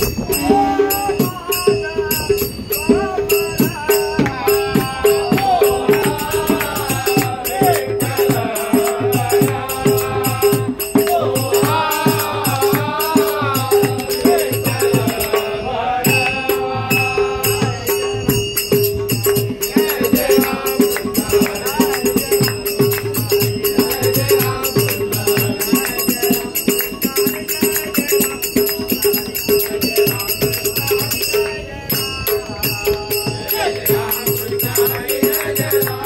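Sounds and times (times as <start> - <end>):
hand drum beat: 0.0 - 15.5, 16.1 - 36.0
men singing devotional song: 0.0 - 36.0
small hand cymbals: 0.0 - 36.0.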